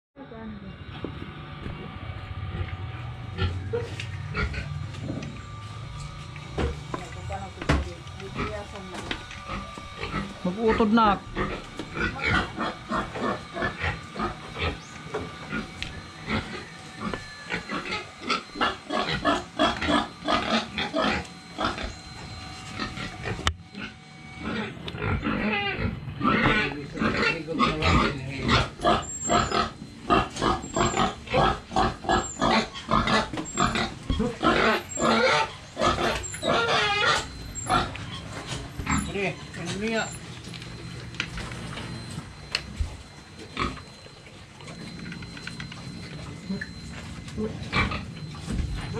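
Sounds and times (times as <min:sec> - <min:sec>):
pigs calling: 0:02.4 - 0:05.6, 0:08.0 - 0:48.9.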